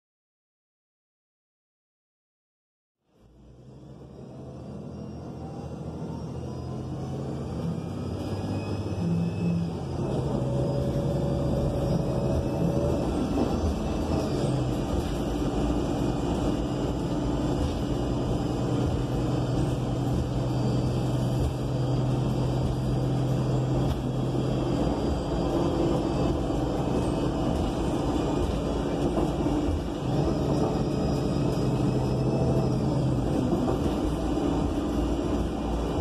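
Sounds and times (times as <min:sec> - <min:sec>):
bus engine hum: 0:03.1 - 0:36.0.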